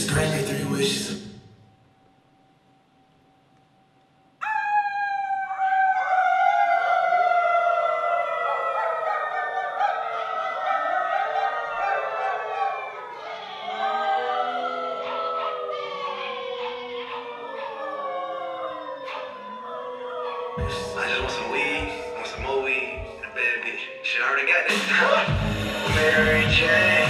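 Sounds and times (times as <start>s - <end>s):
howling voices: 4.4s - 27.0s.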